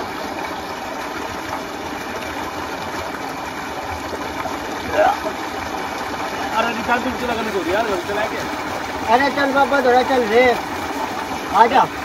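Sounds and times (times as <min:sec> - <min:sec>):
water gushing from pipe: 0:00.0 - 0:12.0.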